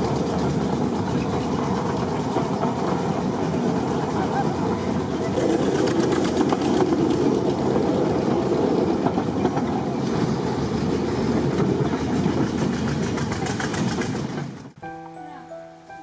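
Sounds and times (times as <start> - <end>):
locomotive engine running: 0.0 - 14.8.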